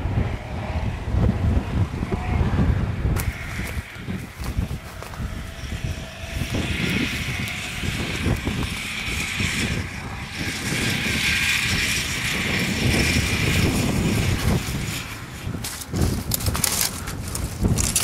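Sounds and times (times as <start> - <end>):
vehicle engine running: 0.0 - 18.0
wind buffeting microphone: 0.0 - 18.0.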